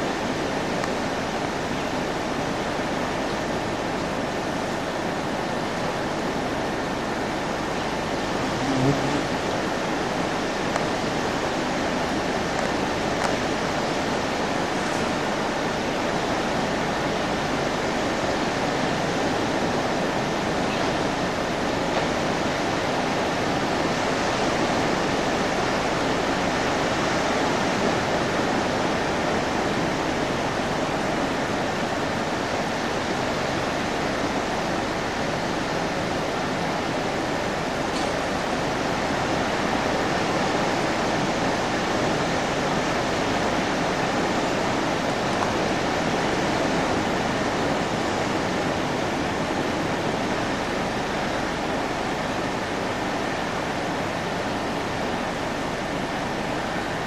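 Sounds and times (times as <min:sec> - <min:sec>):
sea and wind rushing: 0:00.0 - 0:57.0.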